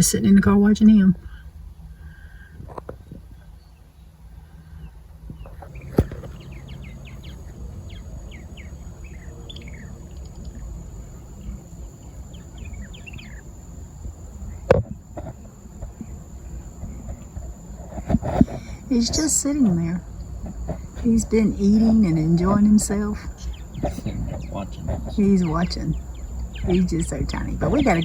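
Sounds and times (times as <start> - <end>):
low steady rumble: 0.0 - 28.0
small birds chirping: 0.0 - 28.0.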